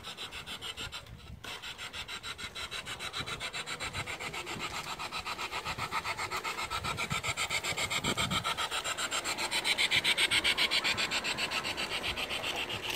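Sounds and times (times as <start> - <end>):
model train rasping along track: 0.0 - 12.9.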